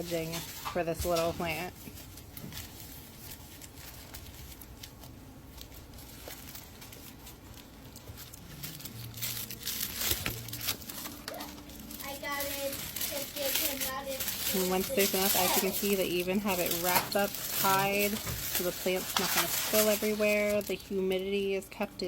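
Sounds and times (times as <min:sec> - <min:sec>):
tissue paper and bubble wrap crinkling: 0:00.0 - 0:22.0.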